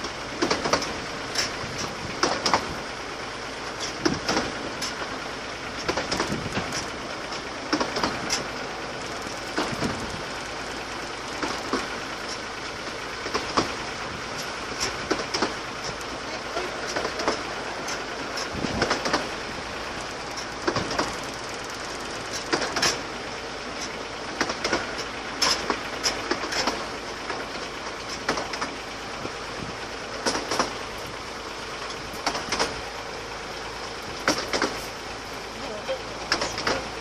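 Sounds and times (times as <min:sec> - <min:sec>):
train wheels rolling rumble: 0:00.0 - 0:37.0
wheels clicking over rail joints: 0:00.0 - 0:37.0.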